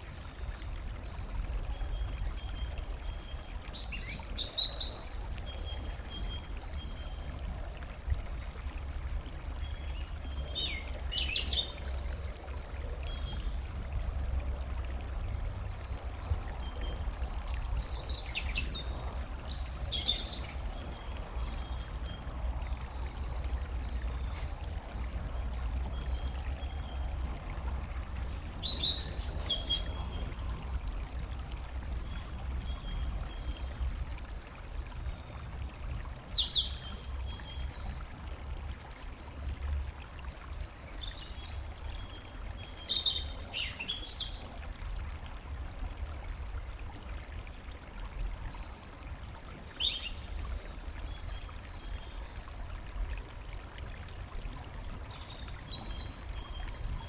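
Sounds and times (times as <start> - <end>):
songbirds chirping: 0.0 - 44.8, 48.3 - 57.0
faint rush of water: 0.0 - 57.0.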